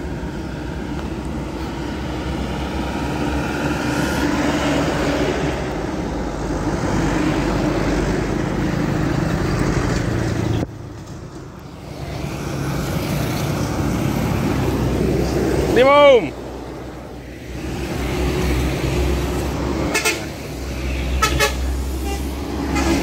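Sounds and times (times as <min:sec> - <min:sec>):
bus driving past: 0:00.0 - 0:23.0
vehicle approaching: 0:00.0 - 0:23.0.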